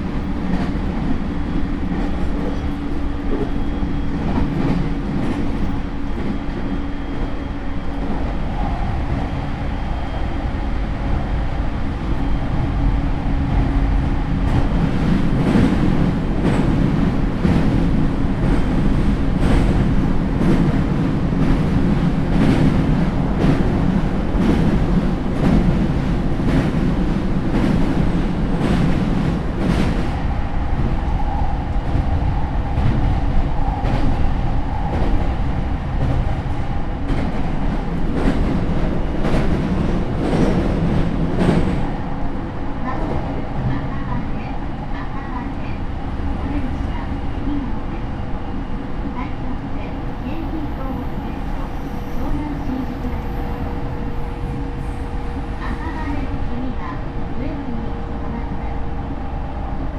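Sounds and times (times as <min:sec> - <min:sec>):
train running low rumble: 0:00.0 - 0:59.9.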